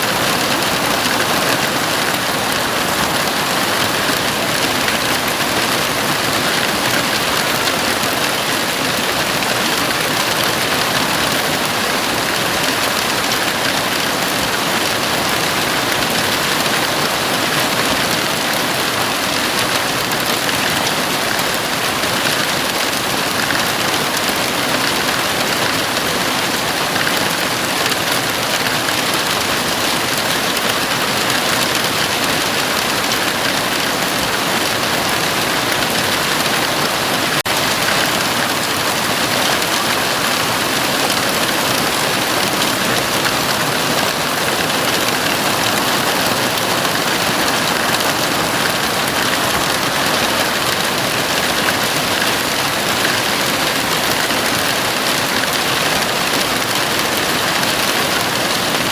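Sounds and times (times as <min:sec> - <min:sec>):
heavy rain drumming on roof: 0:00.0 - 0:58.9.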